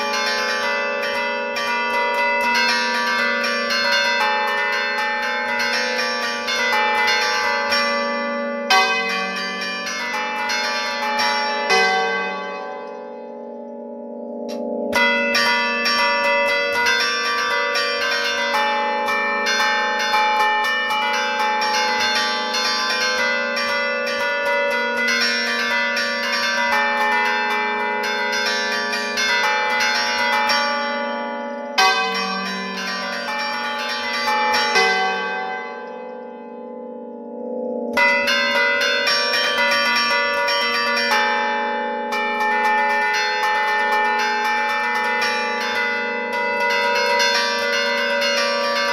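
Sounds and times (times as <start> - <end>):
church bells ringing melody: 0.0 - 48.9
hum of bells: 0.0 - 48.9.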